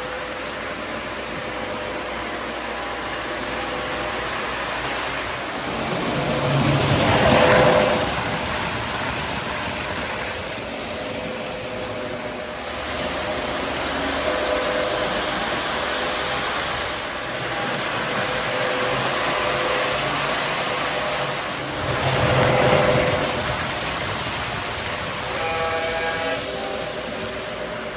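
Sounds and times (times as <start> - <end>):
model train diesel engine sound: 0.0 - 27.9
wheels rumbling on track: 0.0 - 27.9.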